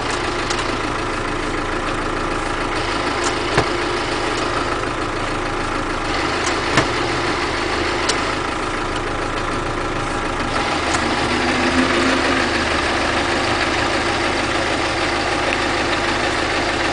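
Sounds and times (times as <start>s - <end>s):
engine and gearbox running: 0.0s - 16.9s.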